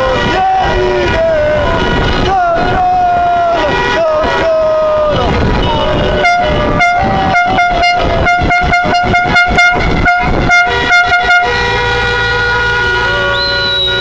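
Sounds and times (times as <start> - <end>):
vehicle horns honking: 0.0 - 14.0.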